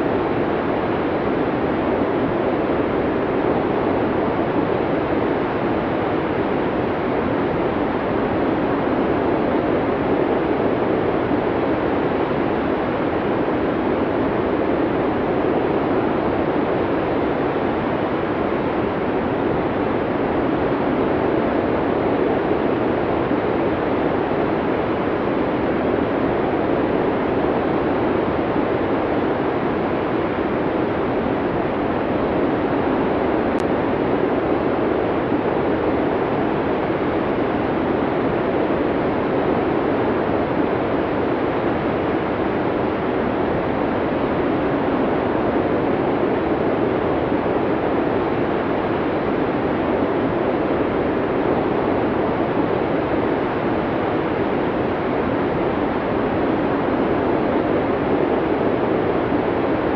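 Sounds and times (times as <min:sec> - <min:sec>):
snowstorm wind blowing: 0:00.0 - 0:59.9.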